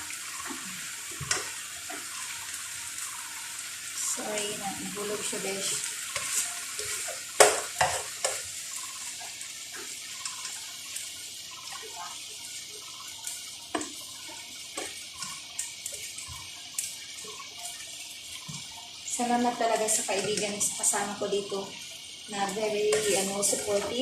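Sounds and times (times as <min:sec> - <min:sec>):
pan sizzling: 0:00.0 - 0:24.0.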